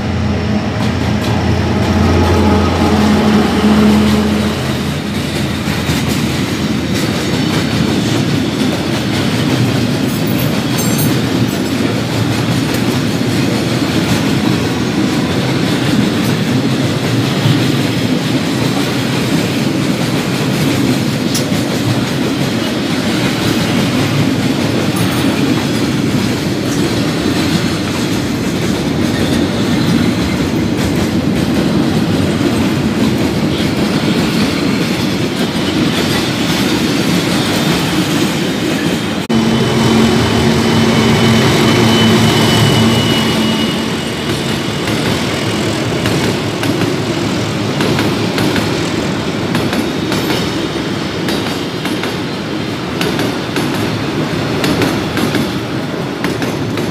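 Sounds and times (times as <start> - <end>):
train wheels running on rail: 0.0 - 56.9.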